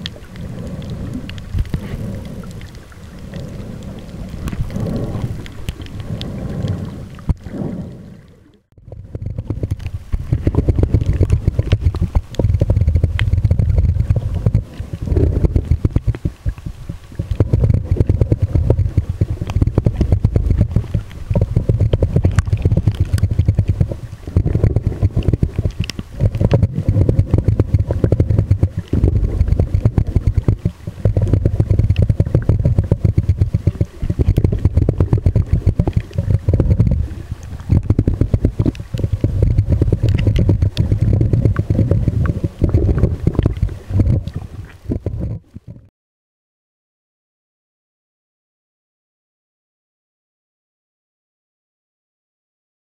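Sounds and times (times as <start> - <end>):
muffled underwater rumble and crackle: 0.0 - 45.9.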